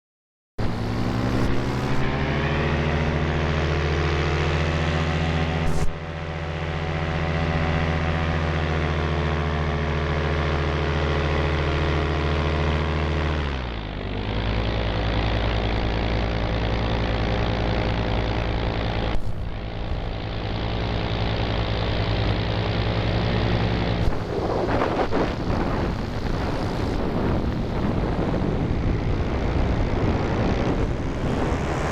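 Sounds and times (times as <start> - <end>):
propeller aircraft engine running: 0.6 - 31.9.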